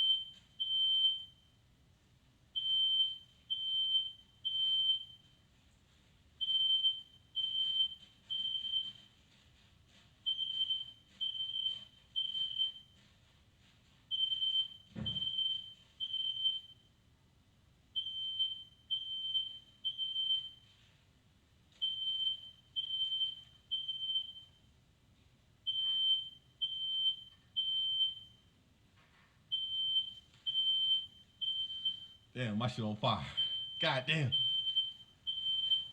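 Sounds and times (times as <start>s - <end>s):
smoke alarm beeping: 0.0s - 1.6s, 2.5s - 5.6s, 6.4s - 9.4s, 10.2s - 13.2s, 14.1s - 17.0s, 18.0s - 20.9s, 21.8s - 24.7s, 25.6s - 28.6s, 29.5s - 35.9s.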